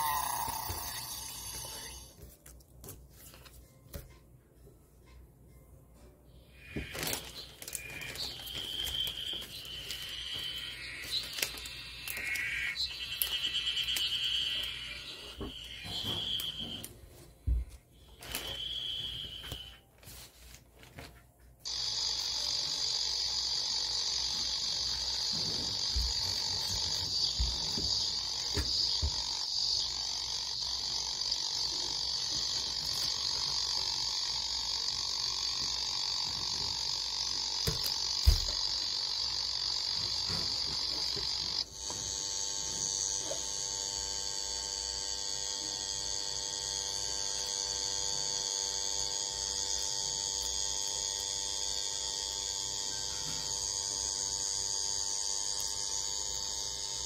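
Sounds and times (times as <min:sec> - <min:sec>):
cicadas buzzing drone: 0:06.5 - 0:16.9, 0:18.0 - 0:19.8, 0:21.7 - 0:57.0.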